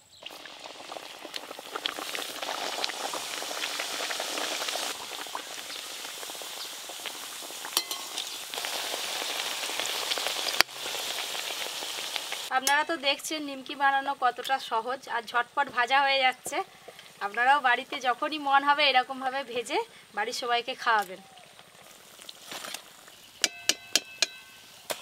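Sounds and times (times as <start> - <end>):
dough deep-frying in hot oil: 0.1 - 19.7, 20.3 - 25.0.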